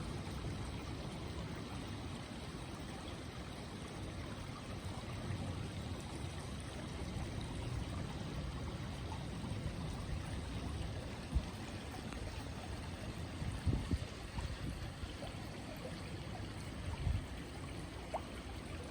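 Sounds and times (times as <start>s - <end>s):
stream flowing: 0.0s - 18.9s.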